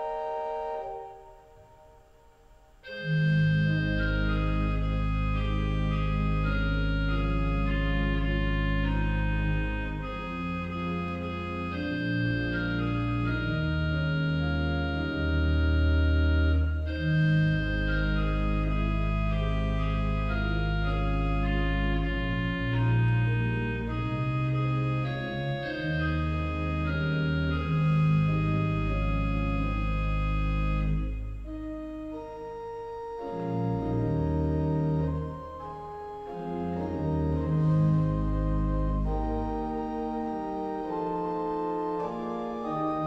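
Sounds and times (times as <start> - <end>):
church organ playing held chords: 0.0 - 1.9, 2.8 - 43.0.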